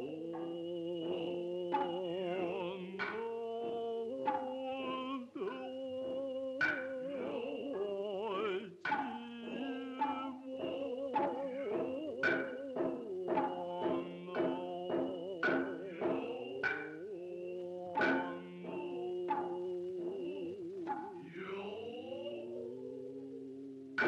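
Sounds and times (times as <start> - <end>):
hand drum strikes: 0.0 - 17.1, 17.9 - 21.5
chanting in wavering held tones: 0.0 - 24.0.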